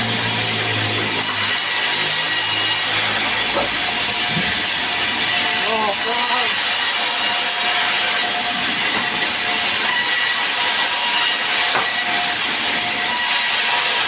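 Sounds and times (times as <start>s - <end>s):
sawmill saw hissing: 0.0s - 14.0s.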